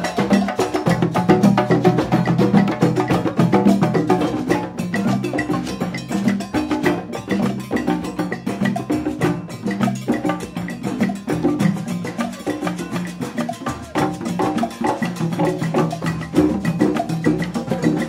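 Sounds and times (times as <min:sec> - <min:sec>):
drum circle playing fast groove: 0:00.0 - 0:18.0.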